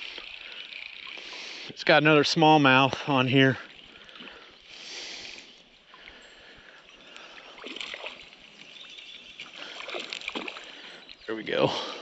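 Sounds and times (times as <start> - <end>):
creek water running: 0.0 - 12.0
water splashing: 0.0 - 12.0.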